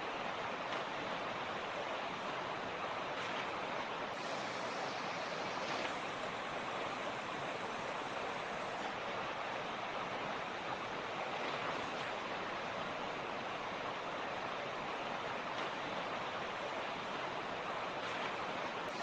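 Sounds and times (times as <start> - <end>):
creek rushing over stones: 0.0 - 19.0.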